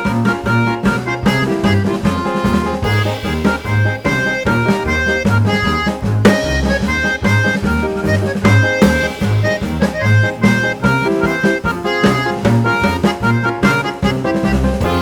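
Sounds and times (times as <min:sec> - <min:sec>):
upbeat instrumental music: 0:00.0 - 0:15.0.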